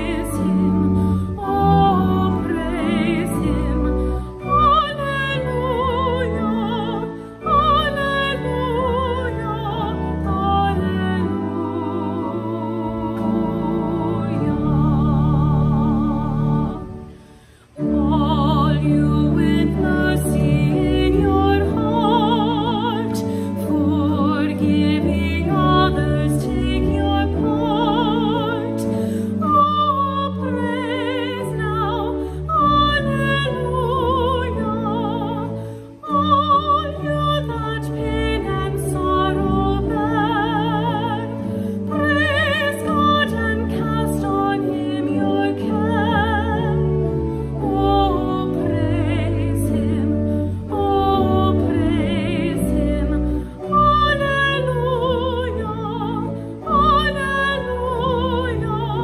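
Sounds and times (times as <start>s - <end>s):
slow classical music: 0.0s - 59.0s.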